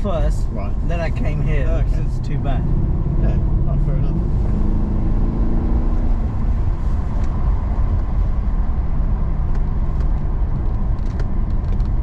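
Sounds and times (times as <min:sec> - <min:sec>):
car engine running: 0:00.0 - 0:12.0
road and tyre rumble: 0:00.0 - 0:12.0.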